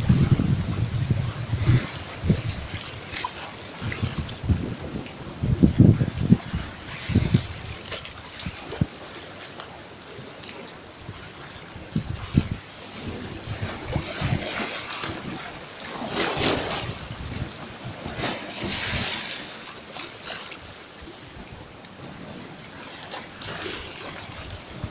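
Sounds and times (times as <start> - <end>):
waves sloshing around boulders: 0.0 - 24.9.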